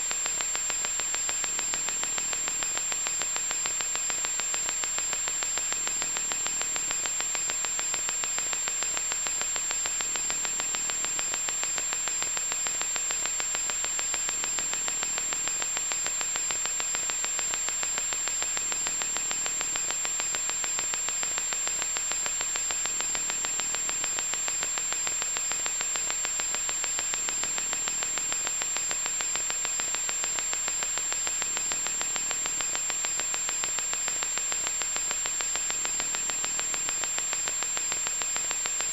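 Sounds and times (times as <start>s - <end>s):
electronic static hiss: 0.0s - 38.9s.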